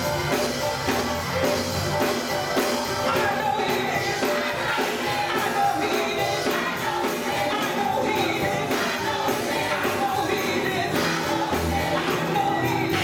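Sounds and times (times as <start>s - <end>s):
gospel choir singing: 0.0s - 13.0s
instrumental accompaniment with beat: 0.0s - 13.0s.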